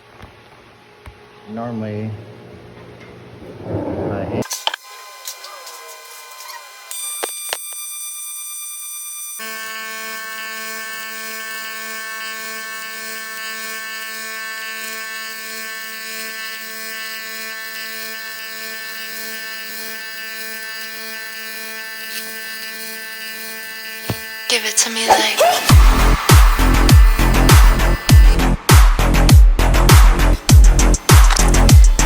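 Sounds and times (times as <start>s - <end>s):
welding arc buzzing: 4.4s - 32.0s.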